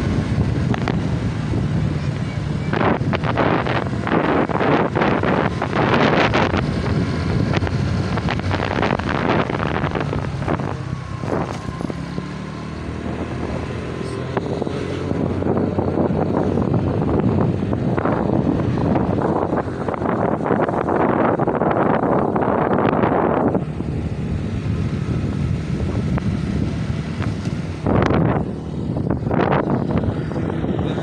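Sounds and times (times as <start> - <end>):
motor scooter engine hum: 0.0 - 31.0
wind buffeting microphone: 0.0 - 31.0.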